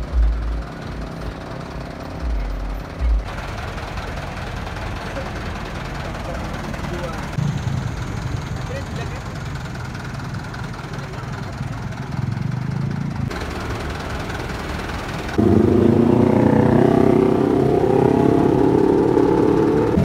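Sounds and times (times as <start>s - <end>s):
truck engines revving: 0.0s - 20.0s.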